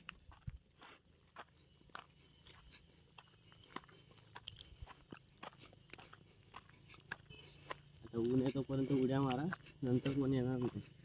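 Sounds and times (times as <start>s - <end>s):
footsteps crunching on leaves: 0.0s - 11.0s.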